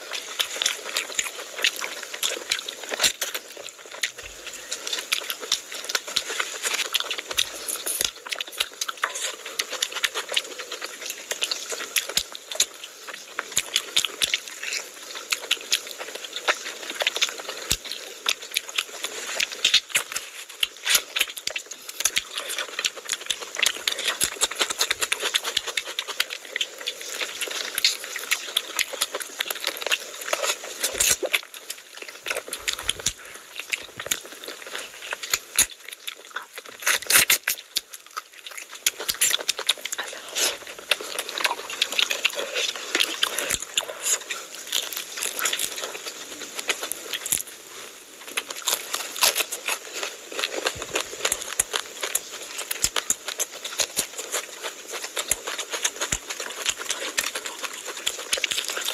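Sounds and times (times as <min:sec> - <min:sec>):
wet chewing and lip-smacking: 0:00.0 - 0:58.9.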